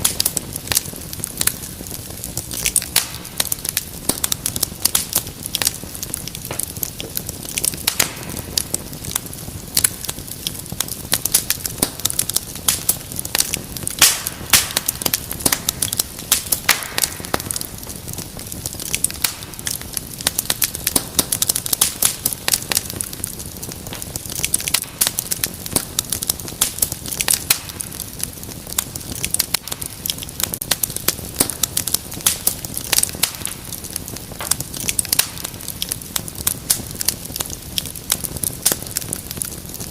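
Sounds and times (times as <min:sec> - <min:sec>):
fire hissing: 0:00.0 - 0:39.9
sharp pops and snaps: 0:00.0 - 0:39.9
wood fire crackling: 0:00.0 - 0:39.9.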